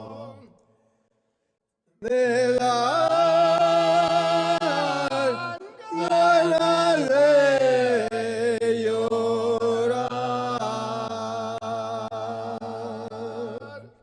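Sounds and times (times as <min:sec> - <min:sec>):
voices singing unaccompanied: 0:02.0 - 0:14.0.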